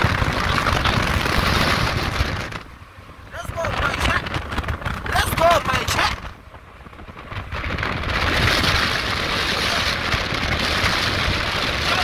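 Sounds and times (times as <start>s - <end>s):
vehicle road noise: 0.0s - 12.0s
wind rushing over microphone: 0.0s - 12.0s.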